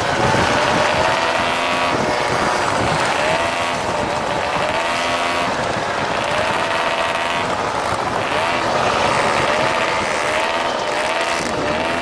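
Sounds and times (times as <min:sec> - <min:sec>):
moped engines running: 0:00.0 - 0:12.0
steady noisy rush: 0:00.0 - 0:12.0.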